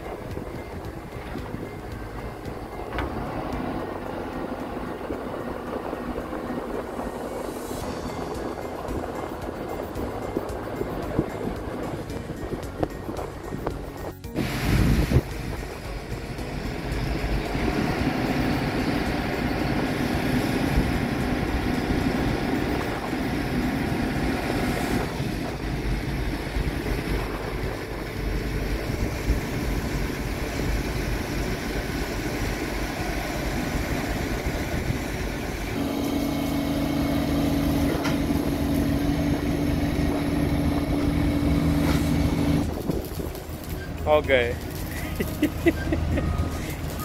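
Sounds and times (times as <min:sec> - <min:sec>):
close engine steady pitch: 0:00.0 - 0:47.0
construction machinery engines: 0:00.0 - 0:47.0.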